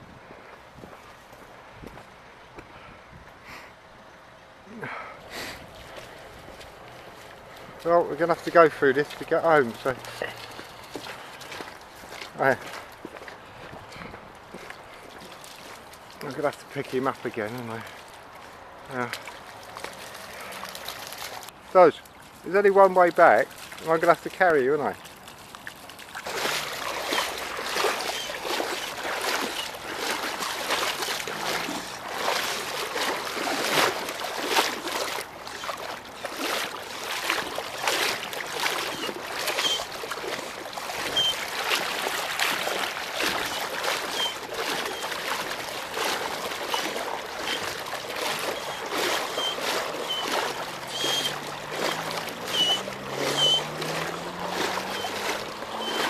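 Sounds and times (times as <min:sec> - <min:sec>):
person wading through water: 0:00.0 - 0:56.0.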